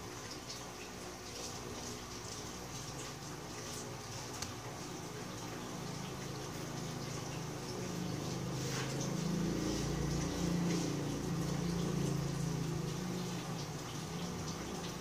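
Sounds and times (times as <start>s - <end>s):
motor hum with airy hiss: 0.0s - 15.0s.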